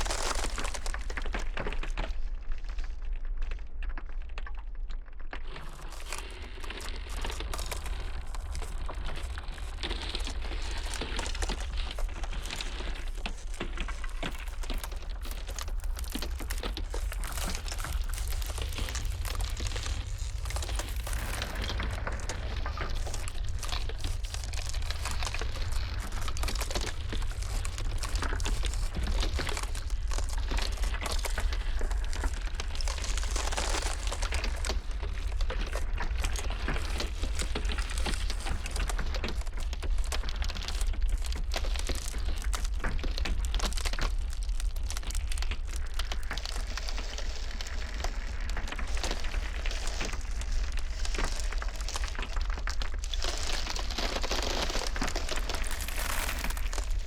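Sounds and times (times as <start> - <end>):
ice cracking and crackling: 0.0 - 57.0
low rumble of blizzard wind: 0.0 - 57.0.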